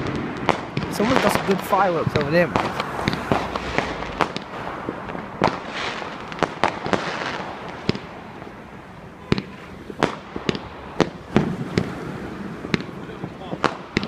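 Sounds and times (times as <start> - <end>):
fireworks bangs: 0.0 - 14.0
fireworks crackling hiss: 0.0 - 14.0.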